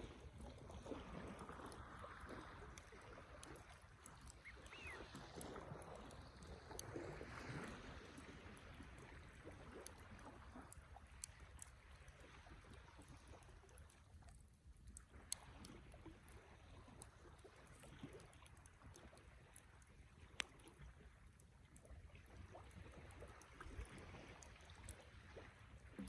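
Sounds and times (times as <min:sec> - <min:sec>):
campfire crackling and popping: 0:00.1 - 0:21.9.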